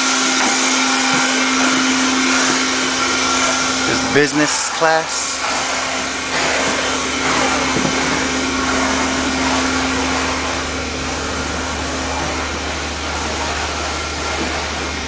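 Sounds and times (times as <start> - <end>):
blower rushing air: 0.0 - 15.0
steady hum: 0.0 - 15.0.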